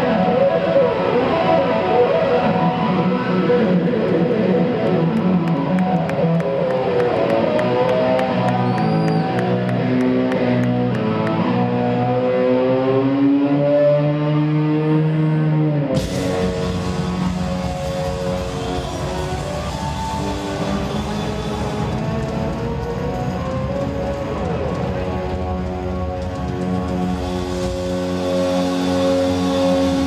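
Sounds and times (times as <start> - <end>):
live rock band: 0.0 - 13.7, 15.4 - 30.0
electric guitar sustained bends: 0.0 - 30.0.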